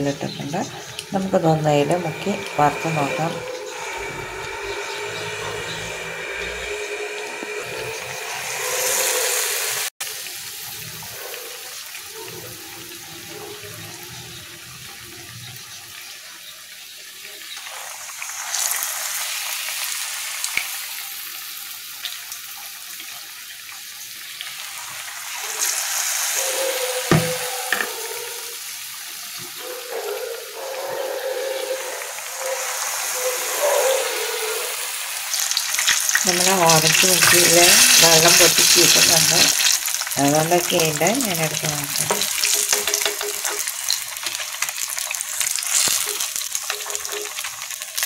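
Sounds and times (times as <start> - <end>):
hot oil sizzling: 0.0 - 48.0.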